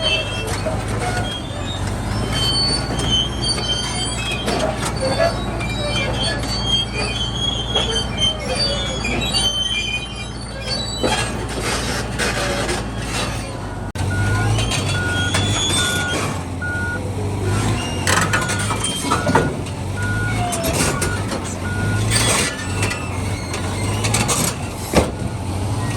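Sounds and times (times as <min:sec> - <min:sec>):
bulldozer diesel engine: 0:00.0 - 0:25.9
steel tracks squealing: 0:00.0 - 0:25.9.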